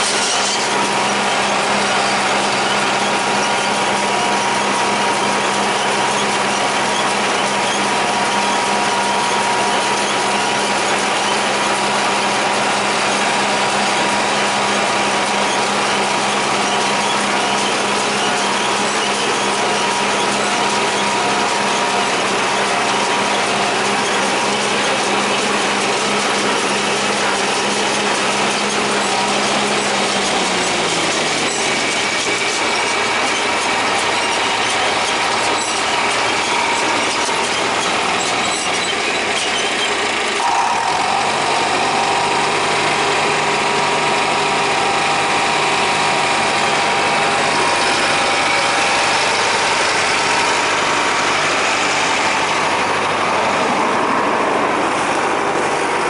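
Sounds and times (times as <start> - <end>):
baler machinery clattering: 0.0 - 56.0
tractor engine running under load: 0.0 - 56.0.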